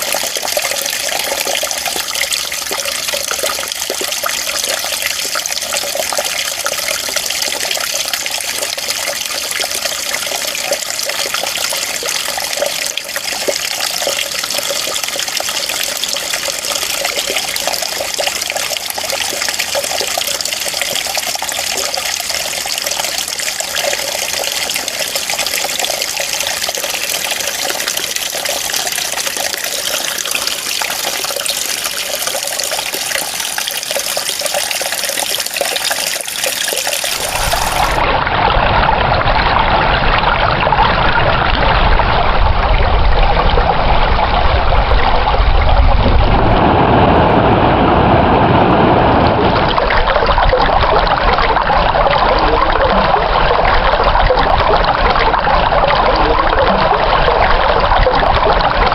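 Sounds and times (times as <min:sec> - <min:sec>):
running water: 0:00.0 - 0:46.8, 0:49.3 - 0:58.9.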